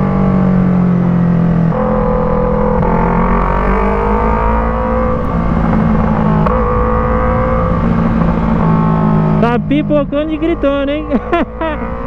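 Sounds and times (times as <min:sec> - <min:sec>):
motorcycle engine while riding: 0:00.0 - 0:12.0.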